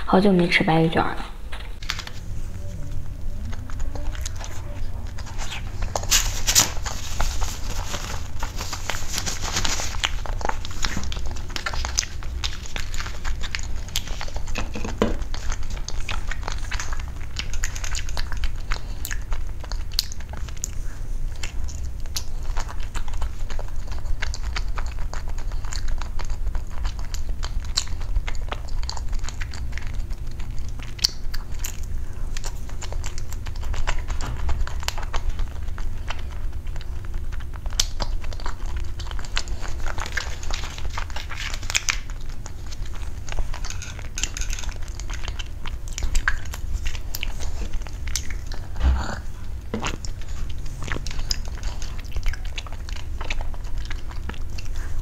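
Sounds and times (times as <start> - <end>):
steady low hum: 0.0 - 55.0
biting and chewing: 1.5 - 55.0.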